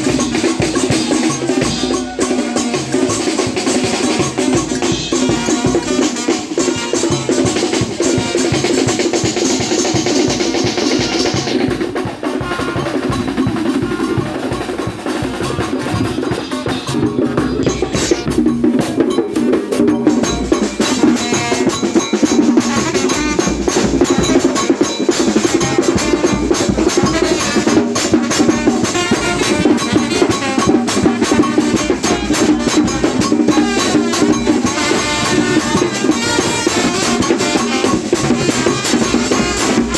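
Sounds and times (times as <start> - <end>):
fast drum music: 0.0 - 39.9.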